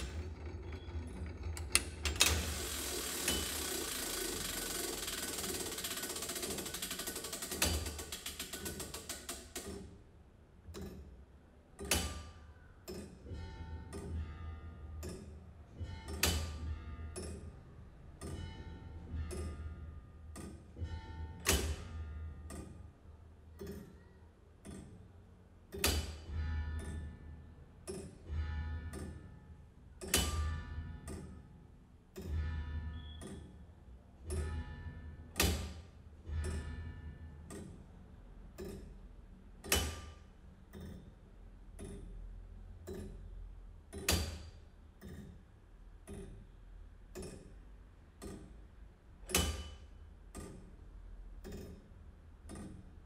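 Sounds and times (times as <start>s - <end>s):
mechanical clicks and knocks: 0.0s - 10.0s, 10.6s - 14.3s, 15.0s - 19.7s, 20.3s - 22.9s, 23.5s - 27.2s, 27.8s - 53.0s.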